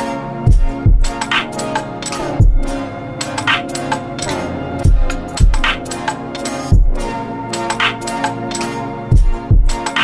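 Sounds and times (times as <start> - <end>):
held chords: 0.4 - 10.0
light ticking percussion: 0.5 - 10.0.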